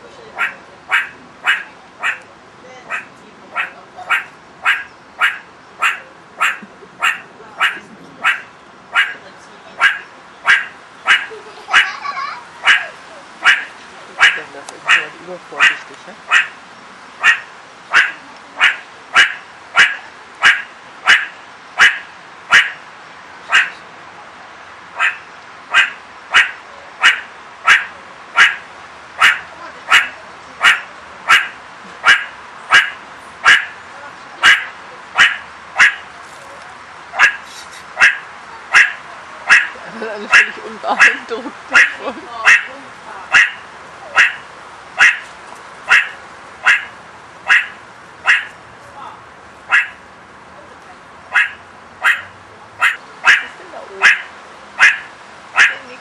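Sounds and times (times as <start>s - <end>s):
meerkat barking alarm call: 0.4s - 2.2s, 2.9s - 9.2s, 9.8s - 16.6s, 17.2s - 22.8s, 23.5s - 23.8s, 25.0s - 33.8s, 34.4s - 36.1s, 37.1s - 45.3s, 45.9s - 48.6s, 49.7s - 50.0s, 51.3s - 56.0s.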